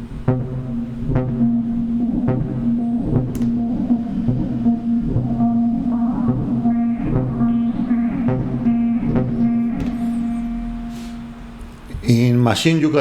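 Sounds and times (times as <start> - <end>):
short plucked synth notes: 0.0 - 11.9
sustained low synth note: 0.0 - 11.9.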